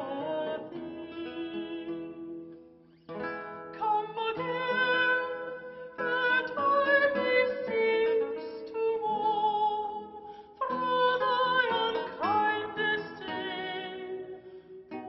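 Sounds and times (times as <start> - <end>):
classical guitar playing: 0.0 - 15.0.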